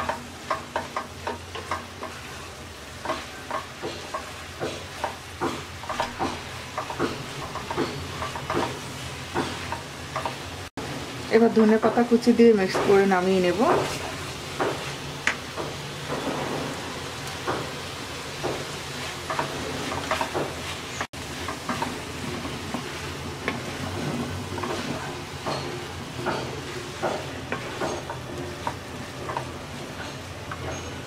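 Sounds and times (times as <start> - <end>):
wooden spatula scraping wok: 0.0 - 10.7, 12.2 - 31.0
soft sizzle: 0.0 - 31.0.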